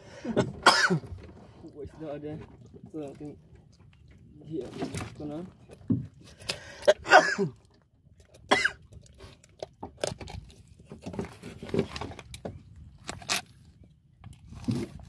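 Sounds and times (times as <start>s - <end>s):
knocks and clicks handling fish: 0.4s - 7.0s, 8.2s - 15.0s.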